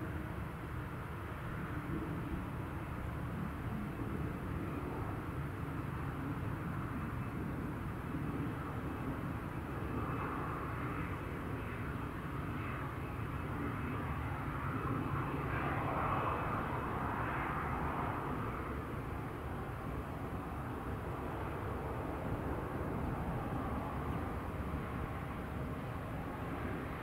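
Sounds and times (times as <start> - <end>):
jet engines running: 0.1 - 27.0.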